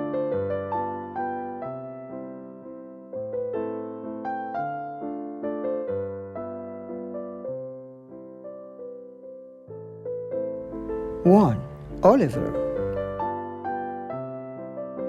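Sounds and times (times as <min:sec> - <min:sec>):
soft electric piano chords: 0:00.0 - 0:15.0.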